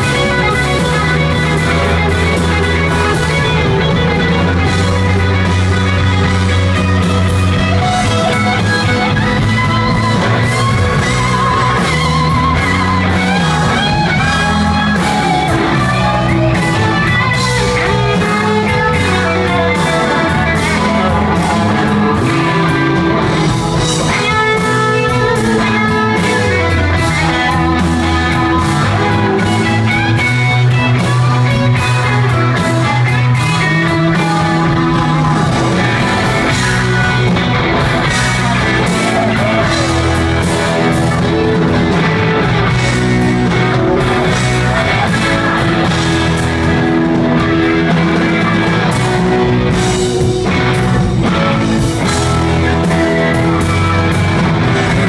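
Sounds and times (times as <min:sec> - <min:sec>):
guitar solo: 0:00.0 - 0:55.0
rock band playing live: 0:00.0 - 0:55.0.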